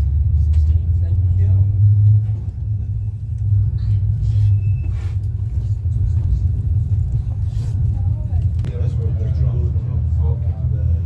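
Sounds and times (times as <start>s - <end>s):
tram running: 0.0s - 11.0s.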